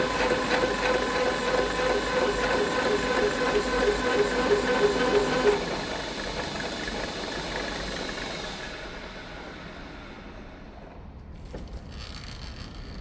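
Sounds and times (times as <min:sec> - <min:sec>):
steady machine whirring: 0:00.0 - 0:10.9.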